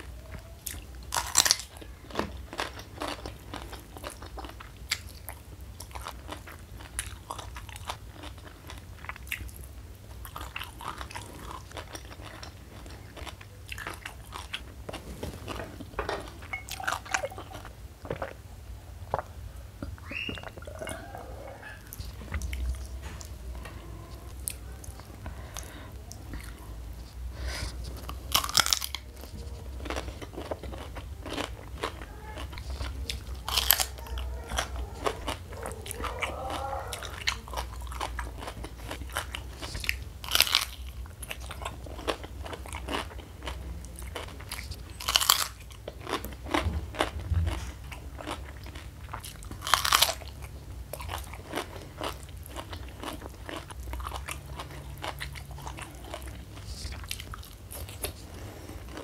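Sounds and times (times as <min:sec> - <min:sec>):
crunching and chewing food: 0:00.0 - 0:59.0.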